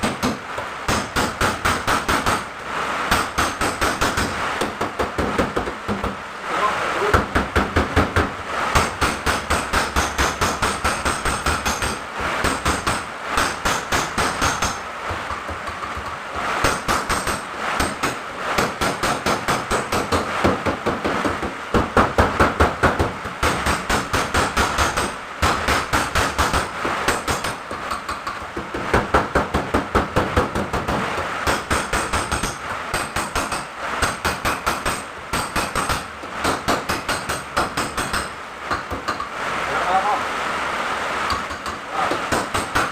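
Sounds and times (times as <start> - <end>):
hammer beating steel panel: 0.0 - 6.2, 7.1 - 39.4, 41.3 - 42.9.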